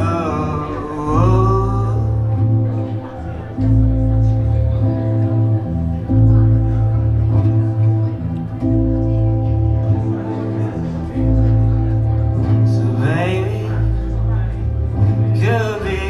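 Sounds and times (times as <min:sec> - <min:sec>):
held chords: 0:00.0 - 0:16.0
steady bass: 0:00.0 - 0:16.0.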